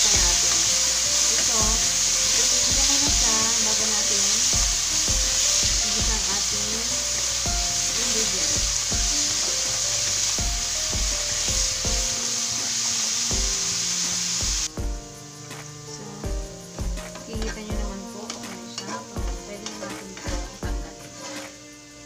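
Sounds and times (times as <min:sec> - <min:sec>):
music with regular beat: 0:00.0 - 0:21.5
wooden spatula stirring in pan: 0:00.0 - 0:21.7
potatoes sizzling in hot oil: 0:00.0 - 0:22.0.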